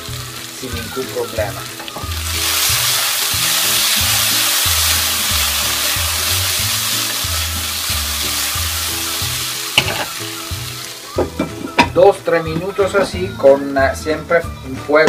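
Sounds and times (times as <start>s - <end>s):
vegetables sizzling in a frying pan: 0.0s - 12.8s
background music with bass line: 0.0s - 15.0s.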